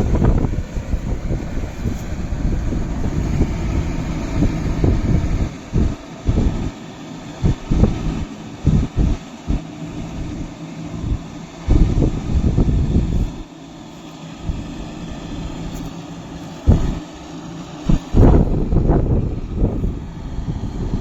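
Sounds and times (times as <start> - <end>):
wind buffeting microphone: 0.0 - 13.5, 14.4 - 21.0
tractor diesel engine running: 0.0 - 21.0.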